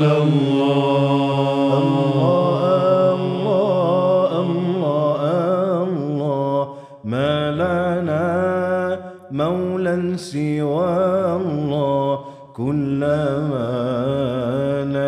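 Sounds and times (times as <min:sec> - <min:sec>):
men chanting a devotional song: 0:00.0 - 0:15.0.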